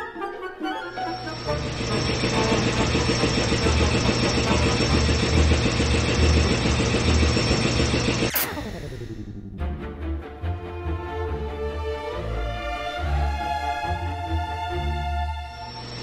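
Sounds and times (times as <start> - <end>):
machine whining and throbbing: 0.8 - 10.9, 12.3 - 16.0.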